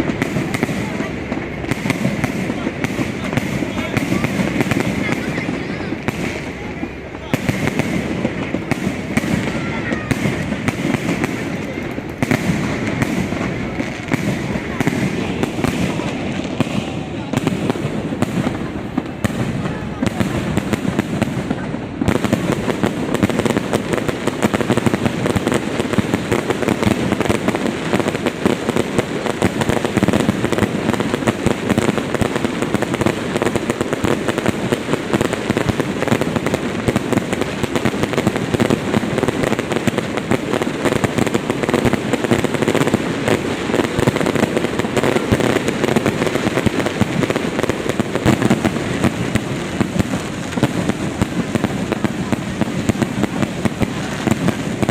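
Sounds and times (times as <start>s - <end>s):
fireworks crackling and banging: 0.0s - 54.9s.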